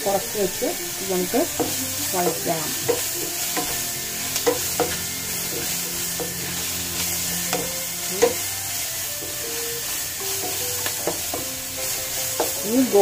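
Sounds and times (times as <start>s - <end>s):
onions sizzling in a frying pan: 0.0s - 13.0s
wooden spatula scraping a pan: 0.0s - 13.0s.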